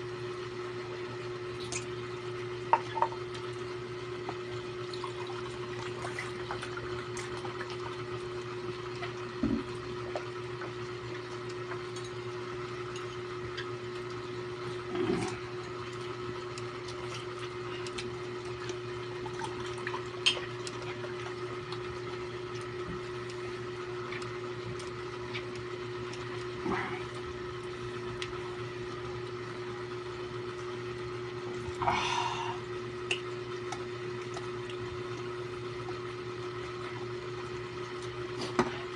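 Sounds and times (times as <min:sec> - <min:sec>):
low motor hum: 0:00.0 - 0:38.9.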